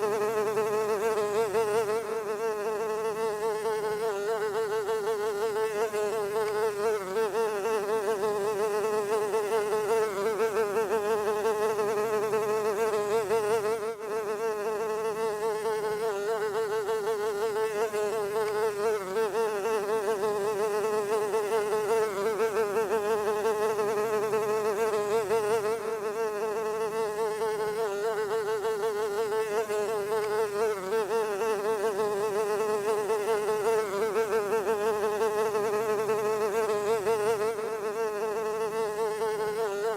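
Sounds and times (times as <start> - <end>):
fly buzzing: 0.0 - 39.9.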